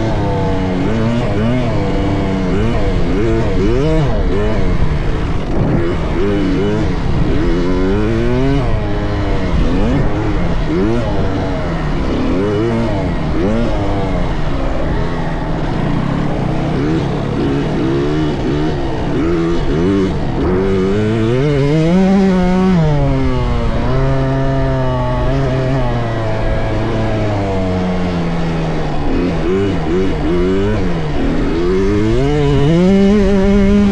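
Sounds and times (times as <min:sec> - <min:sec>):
dirt bike engines revving: 0:00.0 - 0:33.9.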